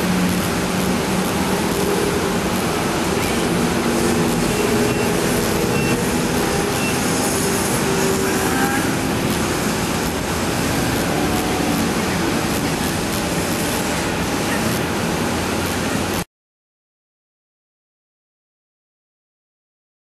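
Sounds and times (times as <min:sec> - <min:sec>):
heavy engines humming: 0:00.0 - 0:16.2
roadway traffic roar: 0:00.0 - 0:16.2.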